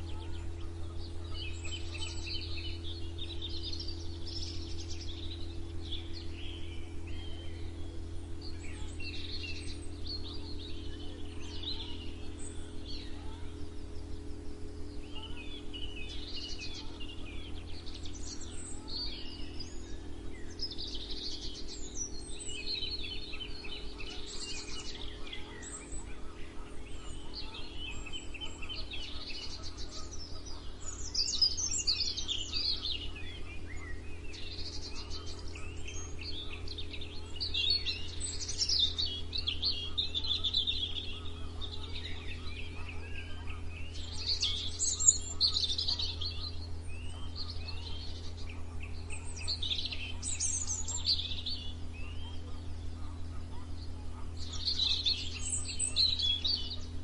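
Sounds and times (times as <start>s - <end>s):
songbirds chirping and singing: 0.0s - 57.0s
steady low hum: 0.0s - 57.0s.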